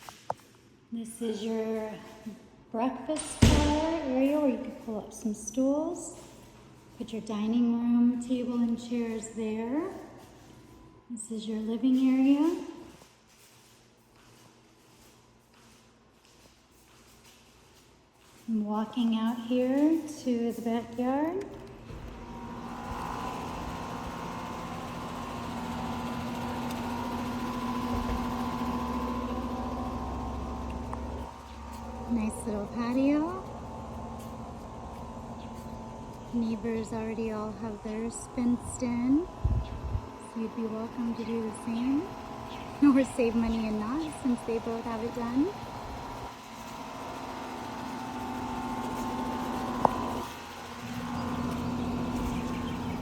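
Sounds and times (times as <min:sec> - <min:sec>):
motor or fan humming: 0:01.2 - 0:53.0.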